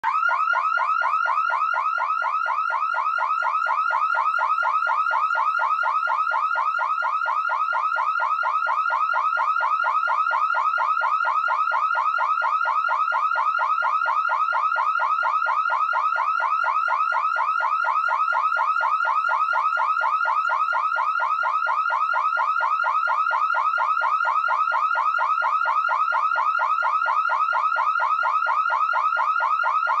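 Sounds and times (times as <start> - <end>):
car alarm siren sweeps: 0.0 - 30.0.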